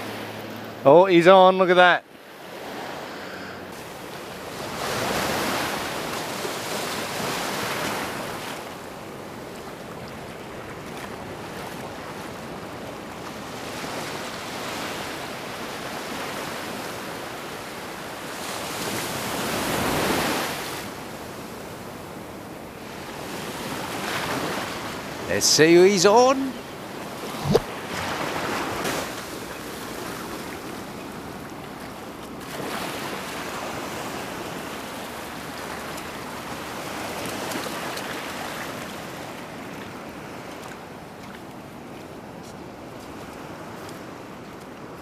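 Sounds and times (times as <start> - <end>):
ocean surf breaking on sand: 0.0 - 45.0.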